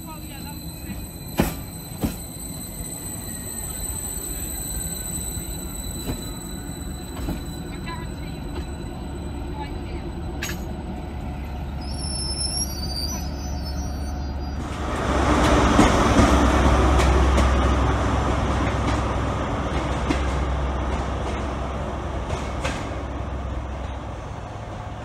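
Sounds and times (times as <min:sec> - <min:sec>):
diesel train arriving: 0:00.0 - 0:25.0
train standing at platform: 0:00.0 - 0:25.0.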